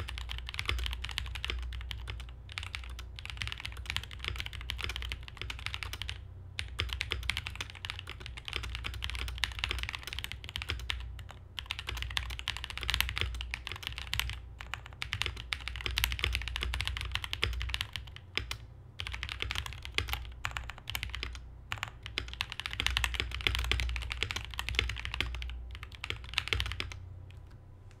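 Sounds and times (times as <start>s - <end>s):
mechanical keyboard typing: 0.0s - 28.0s.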